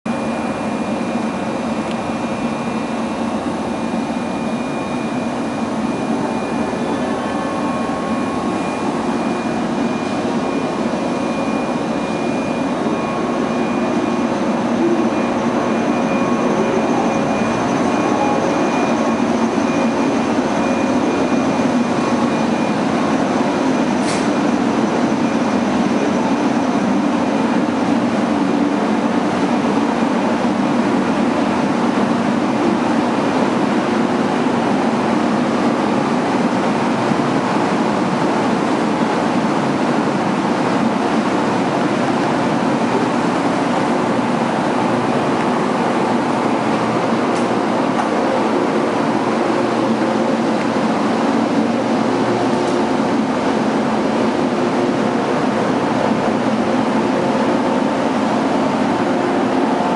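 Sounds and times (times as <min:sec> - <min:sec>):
thin high whine: 0:00.1 - 0:59.9
train electrical hum: 0:00.1 - 0:59.9.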